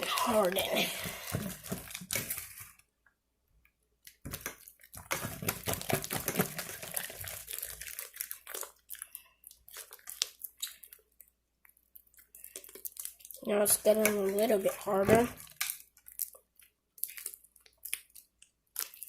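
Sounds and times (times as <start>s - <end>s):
slime squelching: 0.0s - 3.0s, 3.7s - 19.0s.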